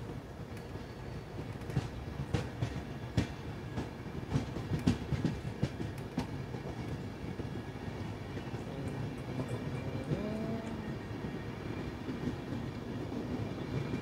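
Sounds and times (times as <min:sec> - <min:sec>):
low train rumble: 0:00.0 - 0:14.0
train wheels clacking on rail joints: 0:00.0 - 0:14.0.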